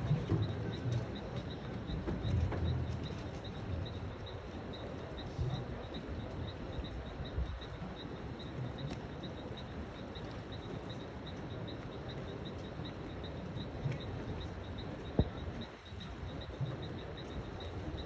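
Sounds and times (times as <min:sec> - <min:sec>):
low background noise: 0:00.0 - 0:18.0
insect chirping: 0:02.8 - 0:18.0.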